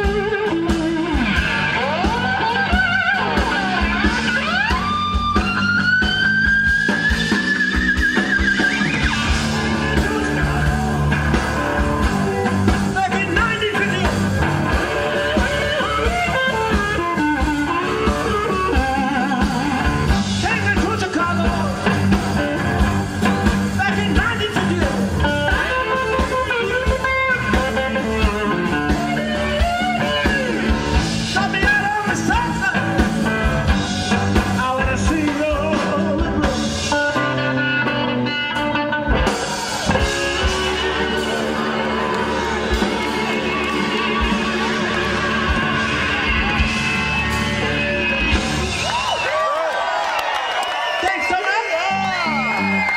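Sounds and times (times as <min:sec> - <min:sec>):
electric slide guitar lead: 0:00.0 - 0:49.2
steady bass: 0:00.0 - 0:49.2.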